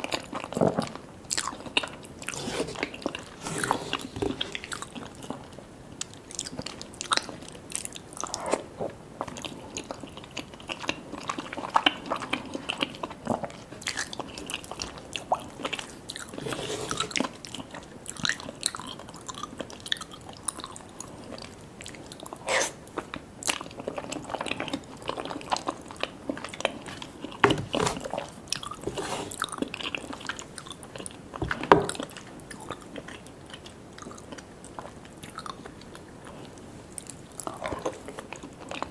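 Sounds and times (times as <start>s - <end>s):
chewing and biting: 0.0s - 38.9s.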